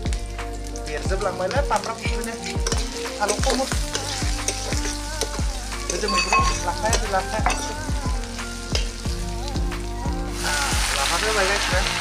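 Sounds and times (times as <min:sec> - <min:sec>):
music with thumping beat: 0:00.0 - 0:11.0
meat sizzling in a pan: 0:00.0 - 0:12.0.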